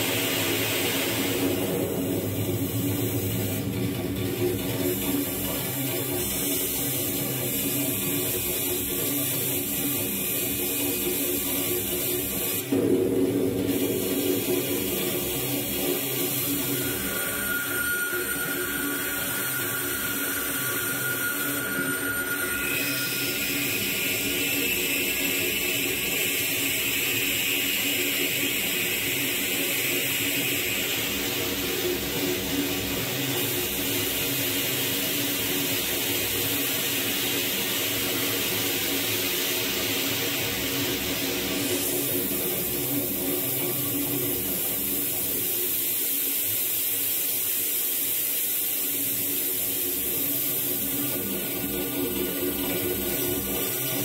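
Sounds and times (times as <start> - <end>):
dense electronic noise wash: 0.0 - 54.0.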